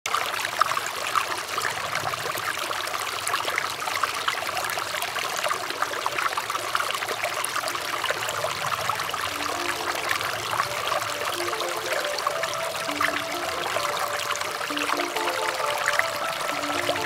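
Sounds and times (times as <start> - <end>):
stream babbling over stones: 0.1 - 17.0.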